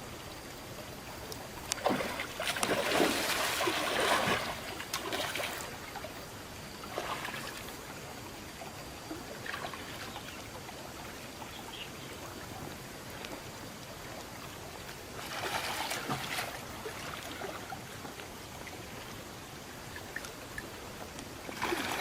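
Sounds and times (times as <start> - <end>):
running water: 0.0 - 22.0
water splashing and sloshing: 0.4 - 11.5, 12.2 - 22.0.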